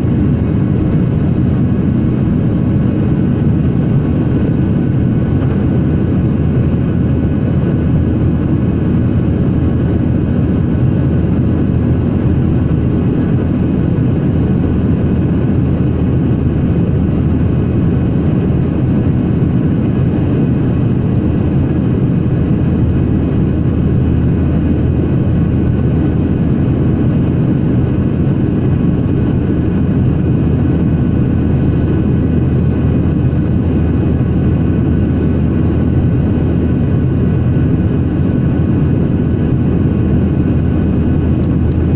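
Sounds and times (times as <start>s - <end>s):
jet airliner cabin engine noise: 0.0s - 41.9s.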